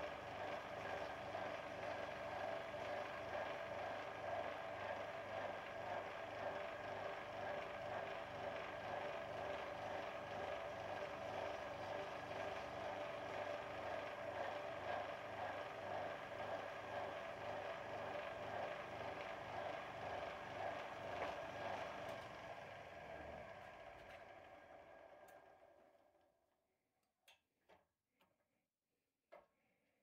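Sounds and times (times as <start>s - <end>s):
wood lathe motor hum: 0.0s - 25.6s.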